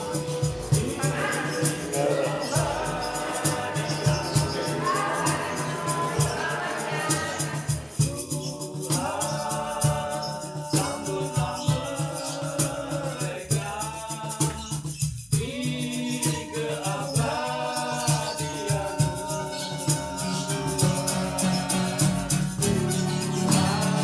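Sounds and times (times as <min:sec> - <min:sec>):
person singing: 0:00.0 - 0:14.7, 0:15.4 - 0:24.0
percussion ticks: 0:00.0 - 0:24.0.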